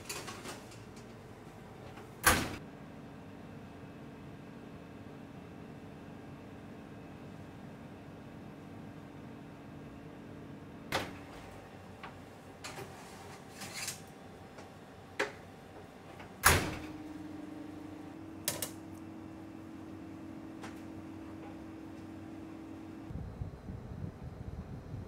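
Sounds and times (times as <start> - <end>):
oven hum: 0.0 - 25.0.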